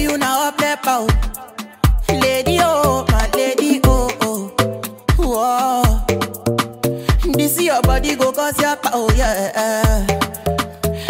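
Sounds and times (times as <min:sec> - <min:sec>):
afrobeats song: 0:00.0 - 0:11.0.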